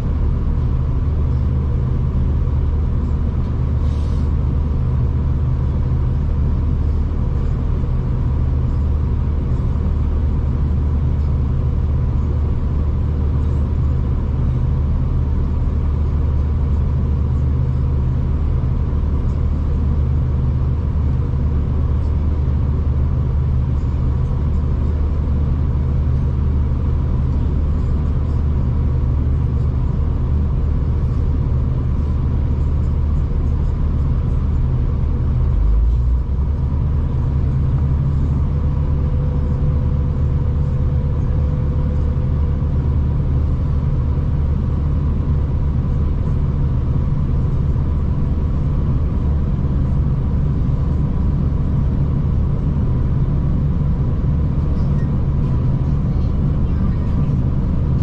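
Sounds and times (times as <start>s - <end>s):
diesel train rumble and hum: 0.0s - 58.0s.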